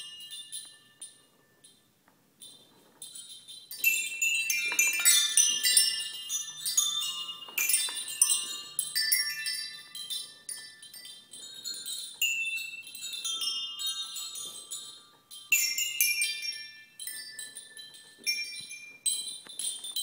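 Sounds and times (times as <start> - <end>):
chime tubes knocking and ringing: 0.0 - 1.8, 2.4 - 20.0.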